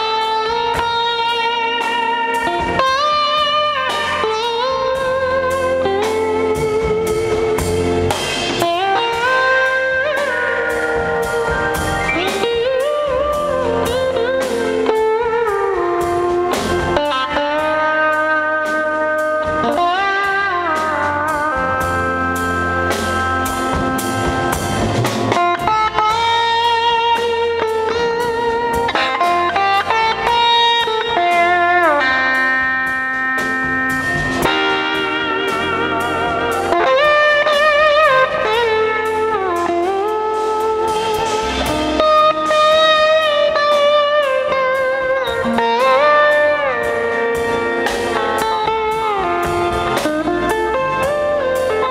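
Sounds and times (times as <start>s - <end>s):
bass: 0.0s - 51.9s
drum kit: 0.0s - 51.9s
electric guitar sliding lead: 0.0s - 51.9s.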